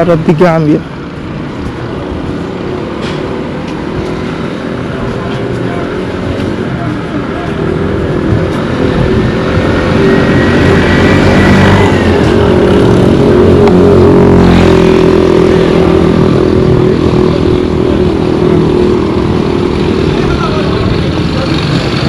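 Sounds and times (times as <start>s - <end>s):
vehicle engine running: 1.5s - 22.0s.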